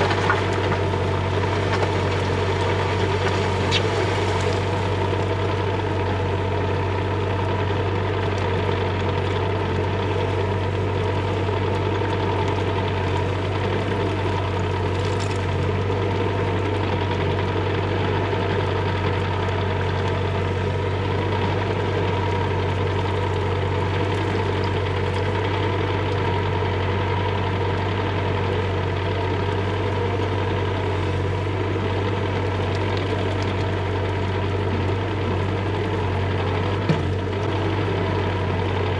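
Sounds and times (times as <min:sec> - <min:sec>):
mini excavator diesel engine running: 0:00.0 - 0:38.9.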